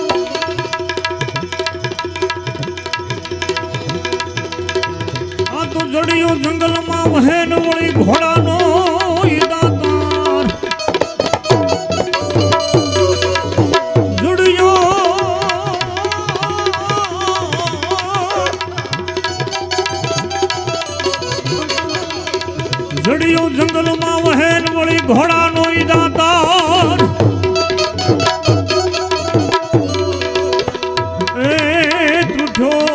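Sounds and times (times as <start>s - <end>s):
tabla rhythm: 0.0s - 32.9s.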